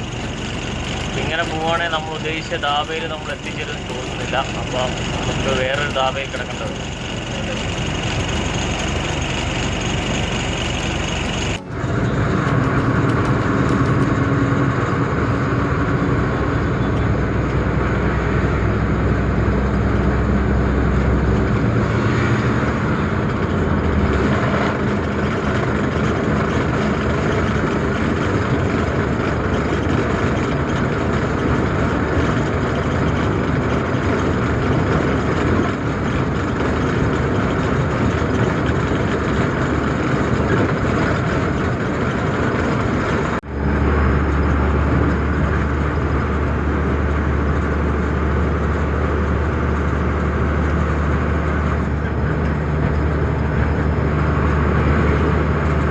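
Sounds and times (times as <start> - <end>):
deep low drone: 0.0 - 55.9
road noise: 0.0 - 55.9
truck diesel engine running: 0.0 - 55.9.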